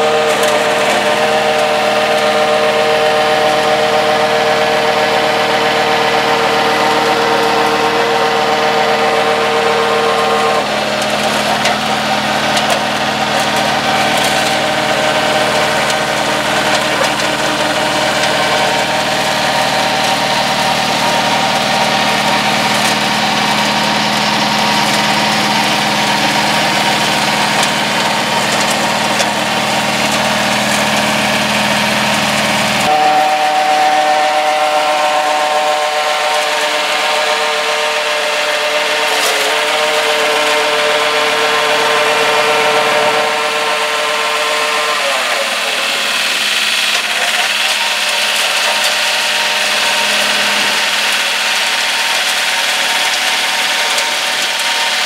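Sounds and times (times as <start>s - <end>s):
diesel engine running: 0.0s - 55.0s
flail mower shredding grass: 0.0s - 55.0s
steady whine: 0.0s - 55.0s.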